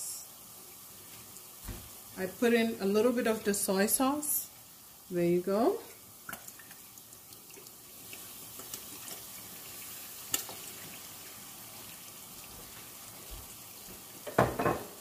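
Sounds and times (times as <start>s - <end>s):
sauce sizzling in a pot: 0.0s - 15.0s.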